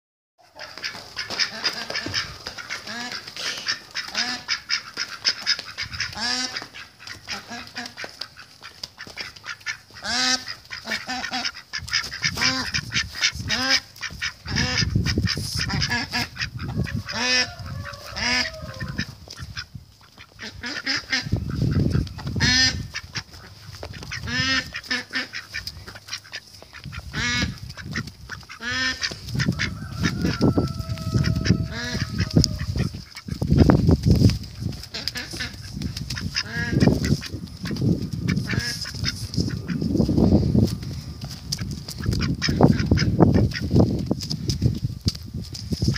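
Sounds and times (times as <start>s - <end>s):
duck quacking: 0.4s - 33.8s, 34.6s - 40.0s, 41.5s - 43.7s.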